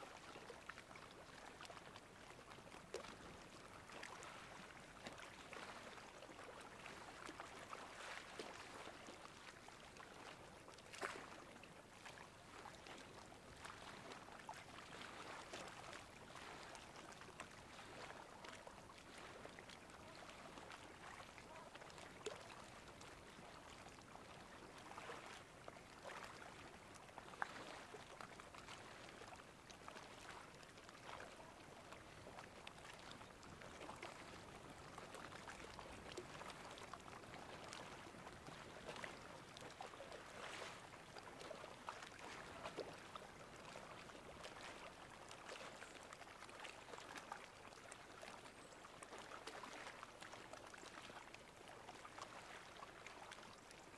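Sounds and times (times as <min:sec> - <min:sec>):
faint seawater lapping: 0:00.0 - 0:53.9
small water splashes: 0:00.0 - 0:53.9.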